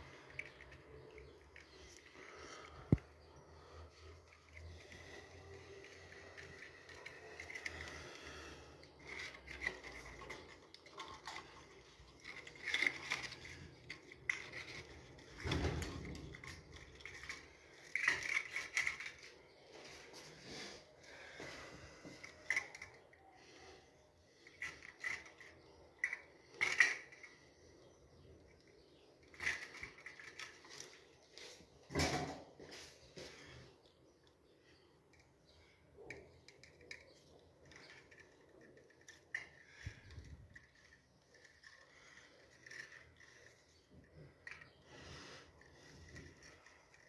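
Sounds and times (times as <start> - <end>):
plastic and wire clicks and scrapes: 0.0 - 21.0, 22.0 - 32.1, 33.1 - 47.0.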